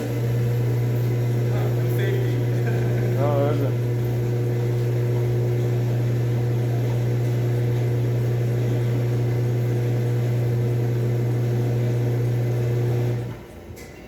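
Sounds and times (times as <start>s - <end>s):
power tool motor humming: 0.0s - 13.3s.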